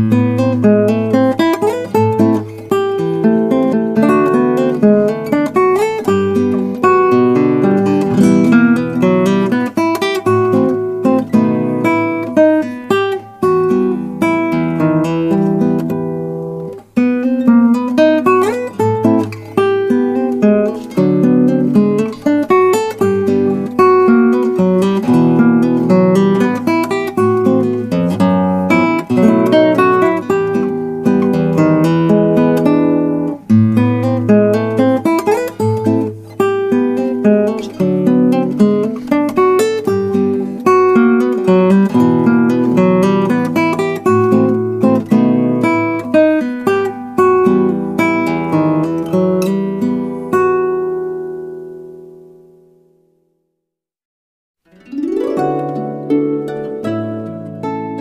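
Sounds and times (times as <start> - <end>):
acoustic guitar music: 0.0 - 53.6, 54.6 - 58.0.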